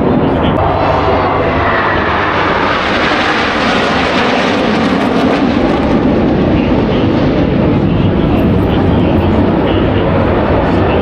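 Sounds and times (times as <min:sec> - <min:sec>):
jet engine roar overhead: 0:00.0 - 0:11.0.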